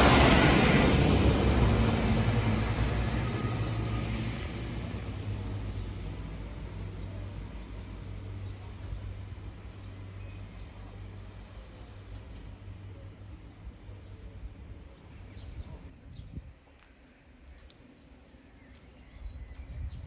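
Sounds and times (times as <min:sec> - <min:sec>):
rail noise: 0:00.0 - 0:19.9
low train engine drone: 0:00.0 - 0:20.0.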